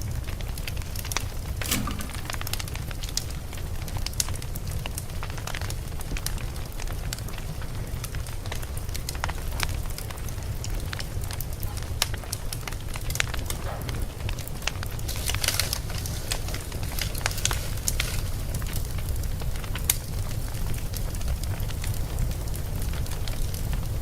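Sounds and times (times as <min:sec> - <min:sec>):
logs crackling and popping in fireplace: 0:00.0 - 0:24.0
low rumble of fire: 0:00.0 - 0:24.0.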